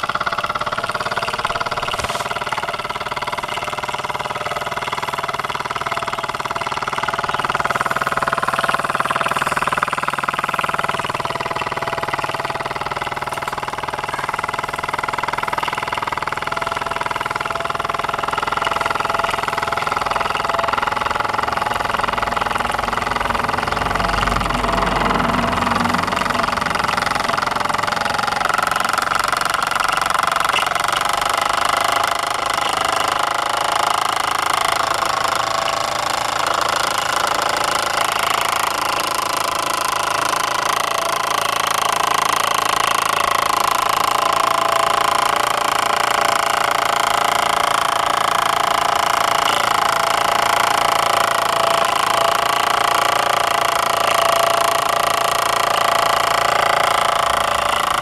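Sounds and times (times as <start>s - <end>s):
toy steam engine running: 0.0s - 58.0s.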